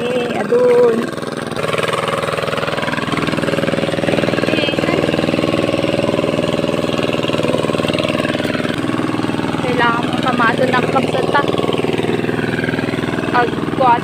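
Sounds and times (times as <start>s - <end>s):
small engine chugging: 0.0s - 14.0s.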